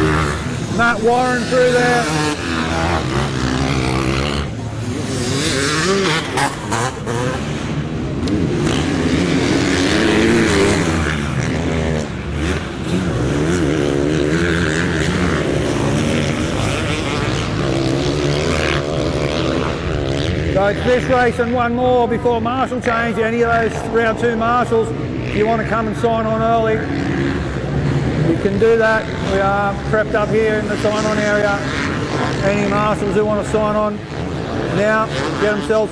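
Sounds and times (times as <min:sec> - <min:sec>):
motocross bike engines revving: 0:00.0 - 0:35.9.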